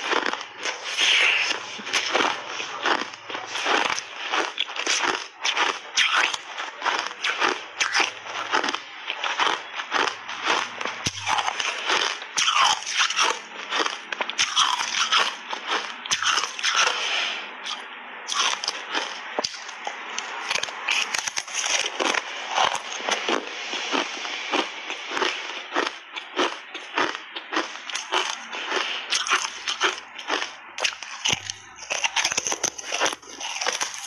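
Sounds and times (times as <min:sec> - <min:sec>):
crunching frozen ice bar: 0:00.0 - 0:34.0.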